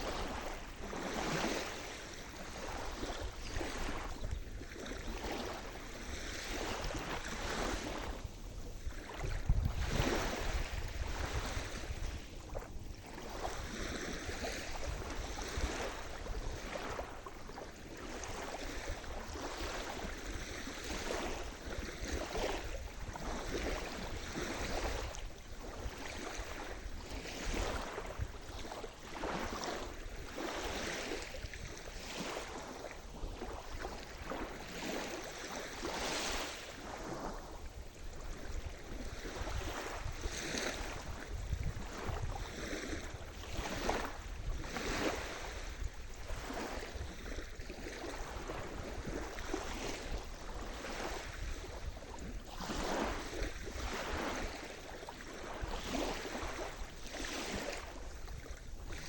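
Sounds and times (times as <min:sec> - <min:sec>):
low rumble of big wave: 0:00.0 - 0:59.0
sea waves breaking: 0:00.0 - 0:59.0.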